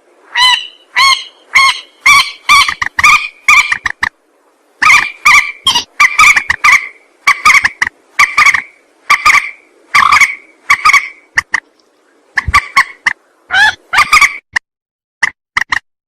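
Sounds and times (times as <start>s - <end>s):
bird calls: 0.3s - 4.2s, 4.8s - 14.4s.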